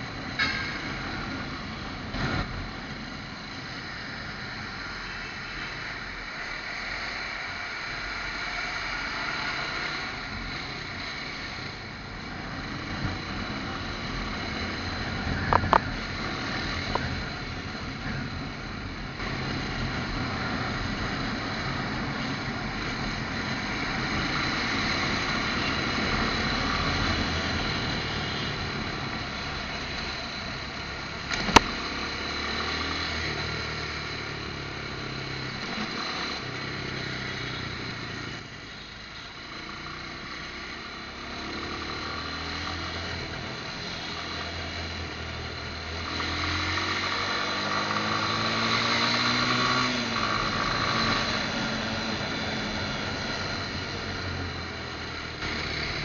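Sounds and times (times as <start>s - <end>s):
road and traffic noise: 0.0s - 56.0s
motorcycle engine running: 10.2s - 56.0s.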